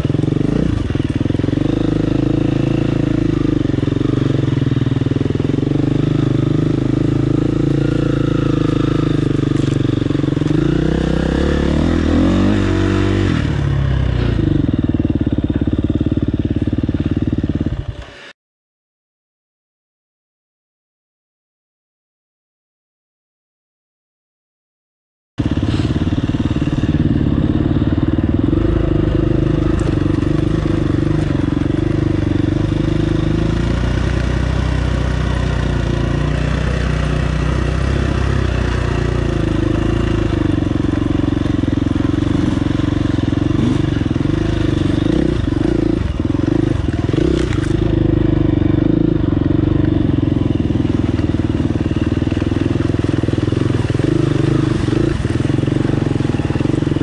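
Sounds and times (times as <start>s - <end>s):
dirt bike engine running: 0.0s - 18.3s, 25.4s - 57.0s.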